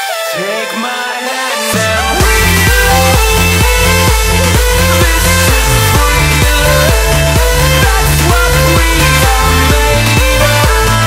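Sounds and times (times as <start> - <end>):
electronic dance music beat: 0.0 - 11.0
falling bass glide: 1.8 - 11.0.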